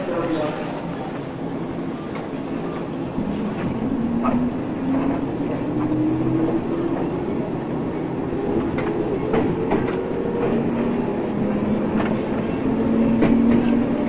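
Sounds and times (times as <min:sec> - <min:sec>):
wheels clicking over rail joints: 0:02.1 - 0:14.0.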